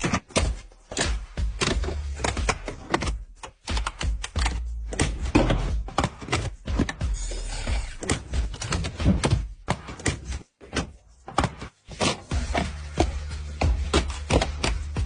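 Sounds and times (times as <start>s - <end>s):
knocks thuds and clunks: 0.0s - 7.1s, 7.9s - 15.0s.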